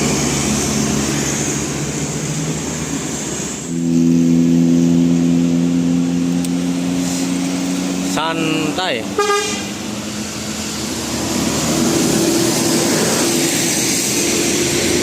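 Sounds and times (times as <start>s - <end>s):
bus engine running: 0.0s - 15.0s
low steady drone: 0.0s - 15.0s.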